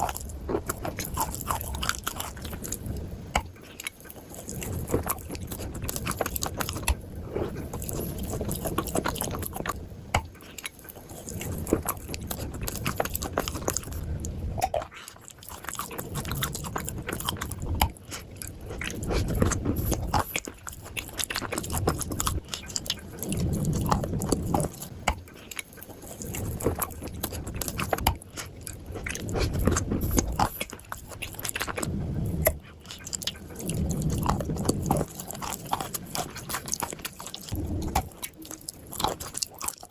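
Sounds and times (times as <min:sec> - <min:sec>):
crunching and chewing dry clay: 0:00.0 - 0:39.9.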